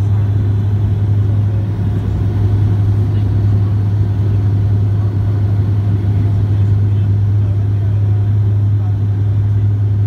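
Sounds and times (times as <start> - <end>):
engine and airflow rumble: 0.0 - 10.0
propeller drone: 0.0 - 10.0.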